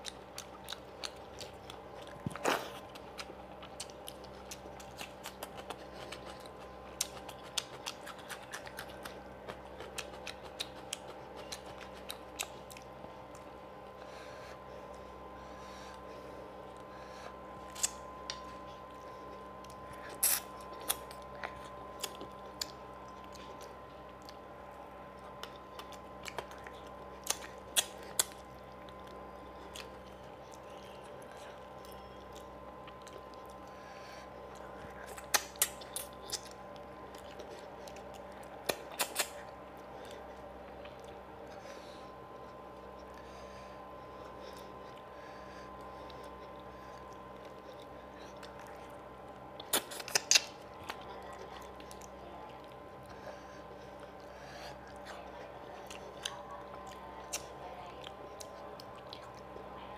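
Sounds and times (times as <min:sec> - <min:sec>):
man chewing wet mouth clicks: 0:00.0 - 0:15.0, 0:17.6 - 0:24.4, 0:25.2 - 0:41.6, 0:44.1 - 0:59.7
steady electrical hum: 0:00.0 - 0:59.9.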